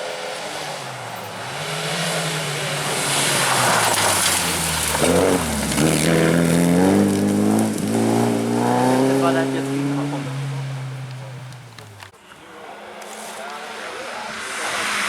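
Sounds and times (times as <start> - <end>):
rally car engine approaching: 0.0 - 15.0.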